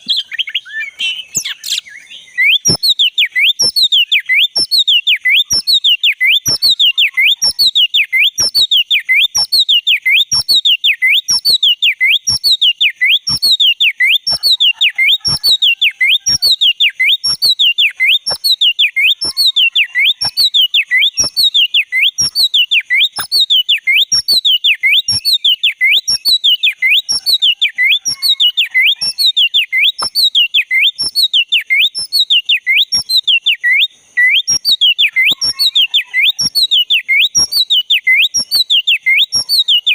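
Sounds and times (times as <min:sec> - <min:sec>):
bird singing whistled phrase: 0:00.0 - 0:39.9.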